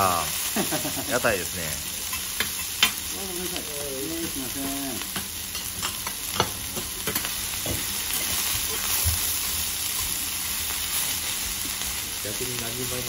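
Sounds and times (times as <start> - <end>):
cabbage sizzling on a griddle: 0.0 - 13.0.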